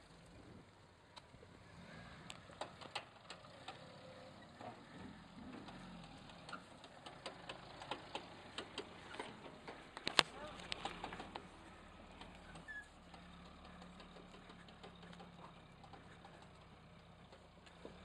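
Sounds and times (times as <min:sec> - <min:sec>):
faint low engine hum: 0:00.0 - 0:18.0
clicks and crackles under tyres: 0:01.0 - 0:01.5, 0:02.1 - 0:18.0.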